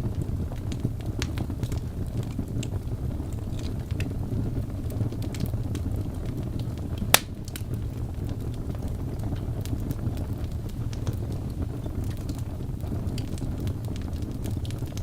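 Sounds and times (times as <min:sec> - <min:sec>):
fire popping loudly: 0:00.0 - 0:15.0
wood fire crackling: 0:00.0 - 0:15.0.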